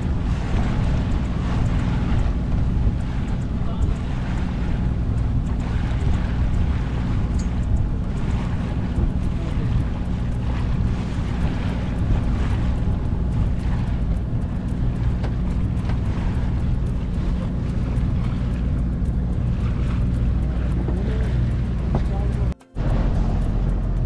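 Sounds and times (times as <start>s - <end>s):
boat engine droning: 0.0s - 24.0s
water rushing past hull: 0.0s - 24.0s
wind on microphone: 0.0s - 24.0s.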